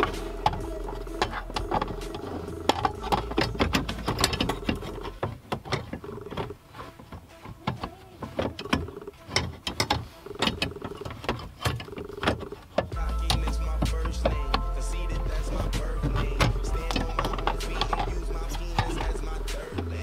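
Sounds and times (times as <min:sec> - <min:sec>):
metal tools clicking and clattering: 0:00.0 - 0:20.0.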